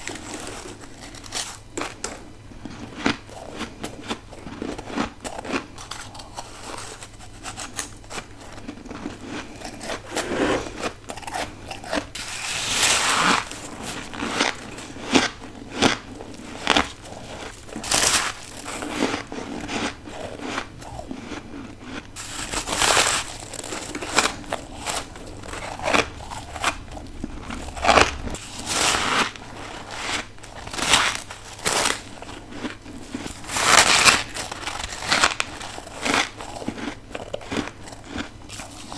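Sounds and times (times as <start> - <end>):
person chewing crunchy frost: 0.0 - 38.9.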